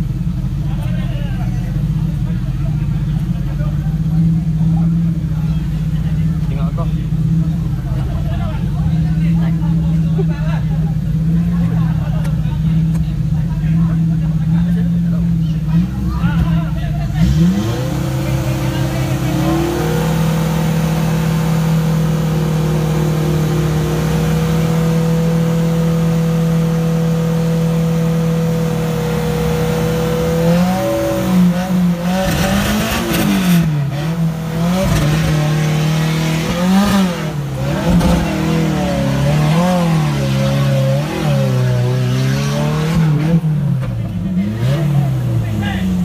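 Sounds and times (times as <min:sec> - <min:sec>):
pickup engine revving: 0:00.0 - 0:46.0.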